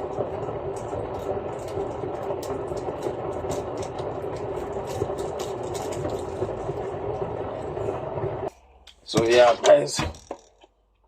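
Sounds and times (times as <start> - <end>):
kettle water rumbling: 0.0 - 10.4.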